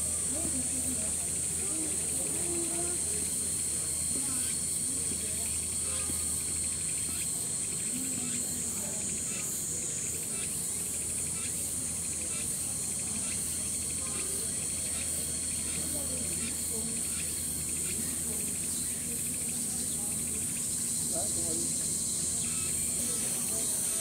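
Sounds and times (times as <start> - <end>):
cicadas droning: 0.0 - 24.0
fast pulsing insect trill: 0.0 - 24.0.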